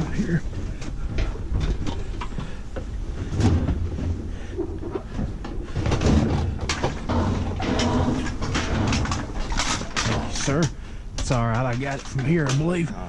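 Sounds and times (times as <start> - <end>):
knocks clunks and rattles: 0.0 - 13.0.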